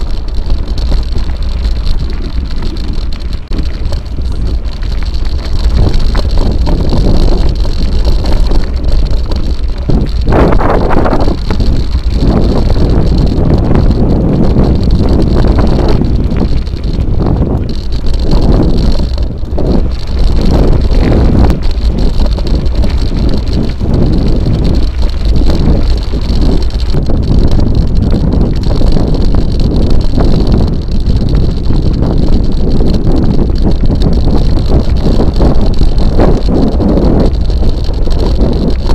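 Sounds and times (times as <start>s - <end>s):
bike tyres rattling over stones: 0.0s - 38.9s
wind buffeting microphone: 0.0s - 38.9s.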